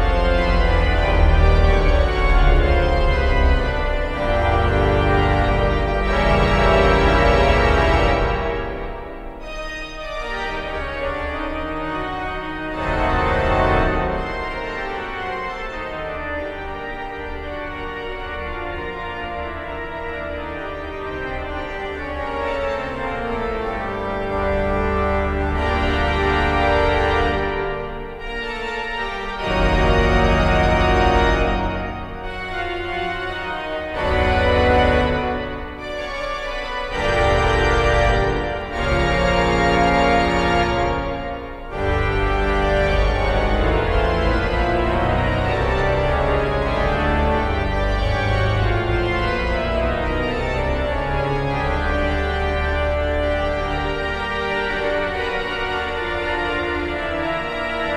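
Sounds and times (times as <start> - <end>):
deep organ pedal bass: 0.0 - 57.9
pipe organ chords: 0.0 - 57.9.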